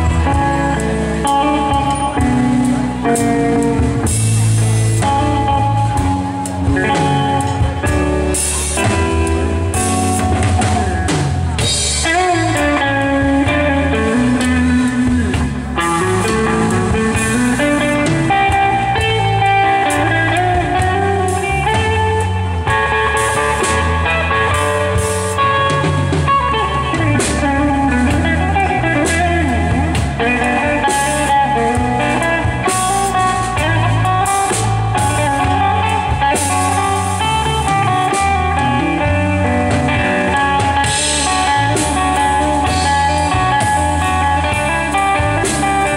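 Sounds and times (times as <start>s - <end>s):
gliding guitar lead line: 0.0s - 45.9s
rock band playing: 0.0s - 45.9s.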